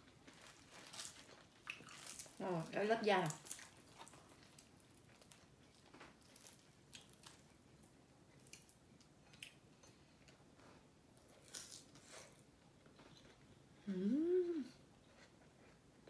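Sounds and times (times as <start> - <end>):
soft chewing: 0.0 - 16.0.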